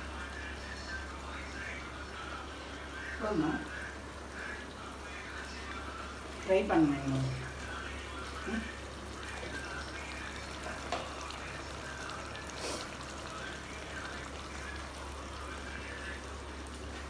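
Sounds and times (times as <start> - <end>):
gravy sizzling in a pot: 0.0 - 17.0.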